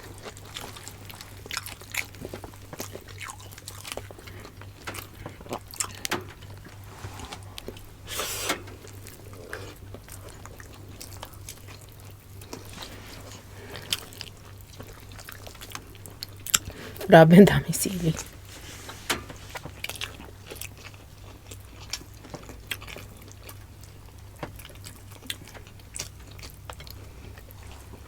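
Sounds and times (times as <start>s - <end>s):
chewing and wet mouth sounds: 0.0s - 17.1s, 19.4s - 28.0s.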